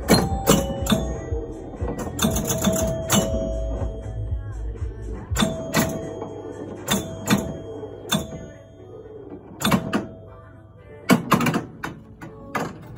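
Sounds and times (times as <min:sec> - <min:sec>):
pinball coils clacking: 0:00.0 - 0:04.0, 0:05.2 - 0:10.5, 0:11.1 - 0:12.9
ringing chime tone: 0:00.0 - 0:11.1.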